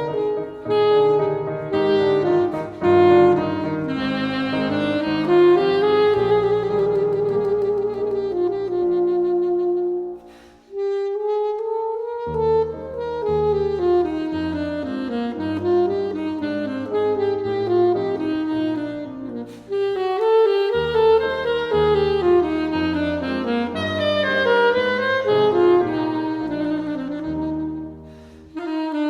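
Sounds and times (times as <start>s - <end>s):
piano accompaniment: 0.0s - 29.0s
saxophone melody: 0.0s - 29.0s.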